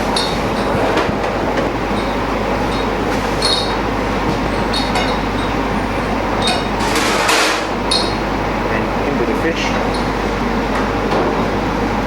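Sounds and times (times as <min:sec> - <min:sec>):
rushing kitchen noise: 0:00.0 - 0:12.0.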